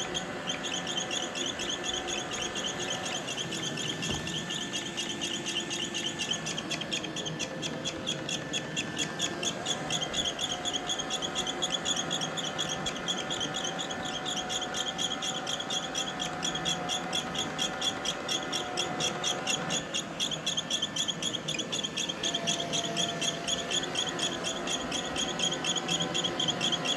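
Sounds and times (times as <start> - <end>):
robot vacuum motors humming: 0.0 - 26.9
robot vacuum rapid high-pitched squeak: 0.0 - 26.9.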